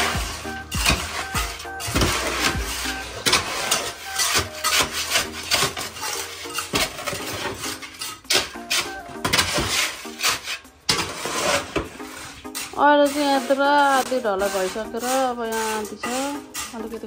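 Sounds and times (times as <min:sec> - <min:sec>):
shovel scraping wet concrete: 0:00.0 - 0:17.0.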